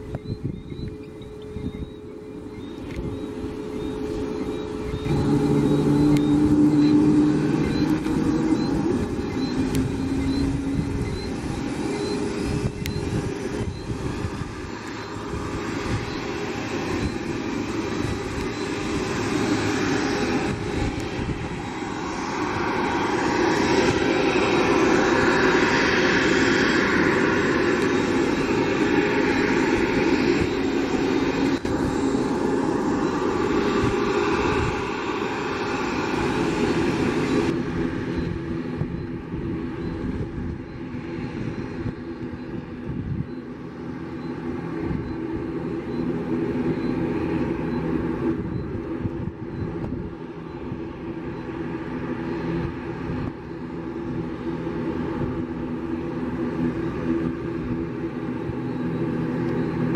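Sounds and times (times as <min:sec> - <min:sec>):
distant engine noise: 0:00.0 - 0:59.9
jet engines running: 0:00.0 - 0:59.9.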